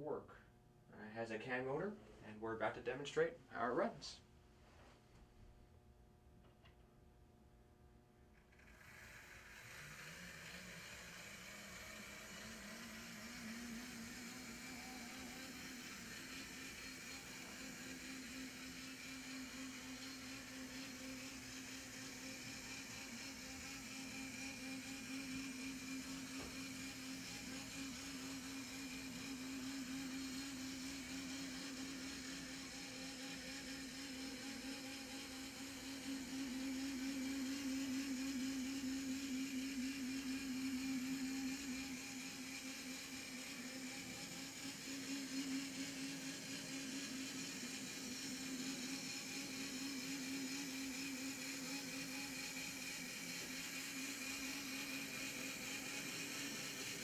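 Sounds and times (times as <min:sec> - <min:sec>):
model locomotive motor whirring: 0:08.3 - 0:57.0.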